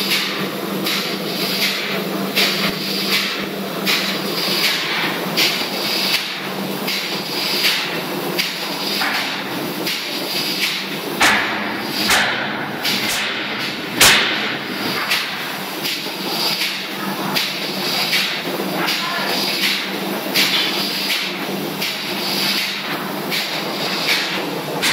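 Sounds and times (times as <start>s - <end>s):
machinery humming: 0.0s - 24.9s.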